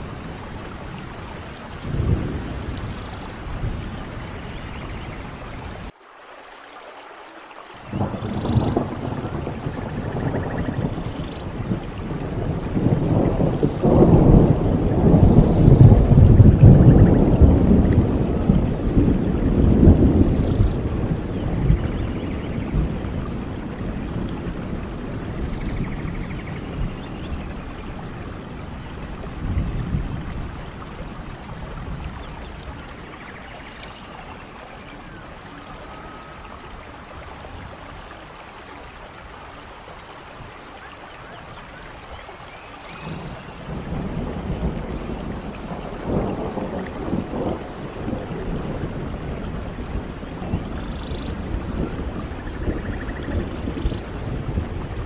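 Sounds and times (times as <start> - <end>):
low rumble of thunder: 0.0 - 5.9, 7.8 - 39.4, 40.4 - 55.0
steady rain: 0.0 - 55.0.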